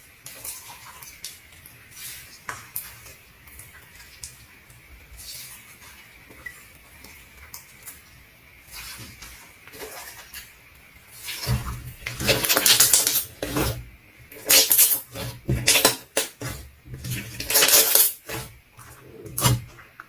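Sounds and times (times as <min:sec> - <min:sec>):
slime squelching by hand: 0:00.0 - 0:20.0.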